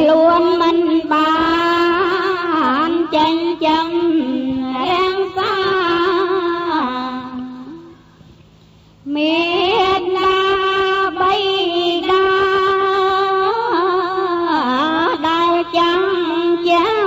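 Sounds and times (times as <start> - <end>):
person chanting verses: 0.0 - 8.0, 9.1 - 17.0.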